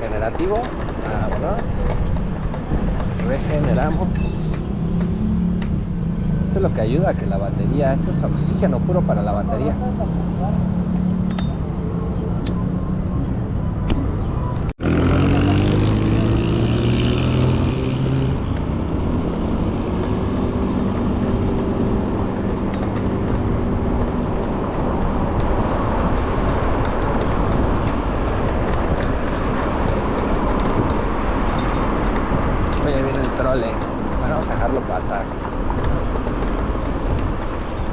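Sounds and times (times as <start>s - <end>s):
rushing wind: 0.0s - 37.9s
street traffic: 0.0s - 37.9s
vehicle engine accelerating: 0.0s - 37.9s.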